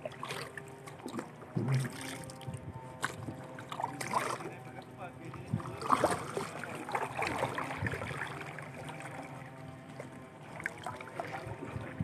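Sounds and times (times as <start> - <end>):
kayak paddle through water: 0.0 - 12.0.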